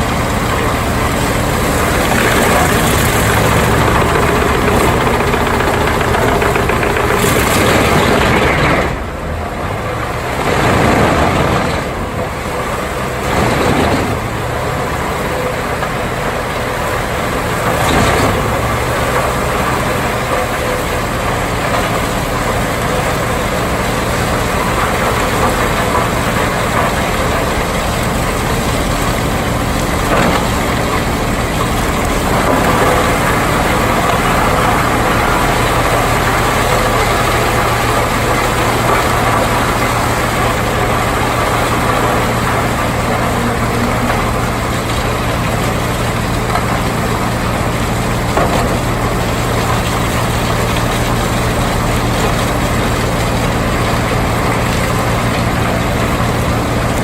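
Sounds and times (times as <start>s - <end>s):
wood chipper engine droning: 0.0s - 57.0s.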